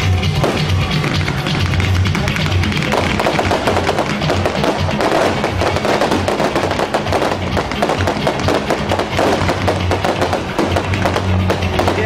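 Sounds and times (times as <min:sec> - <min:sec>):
fireworks crackling and popping: 0:00.0 - 0:12.0
firework shells bursting: 0:00.3 - 0:12.0.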